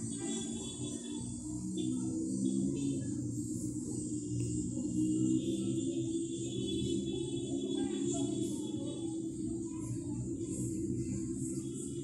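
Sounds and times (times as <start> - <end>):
faint singing: 0.0 - 12.0.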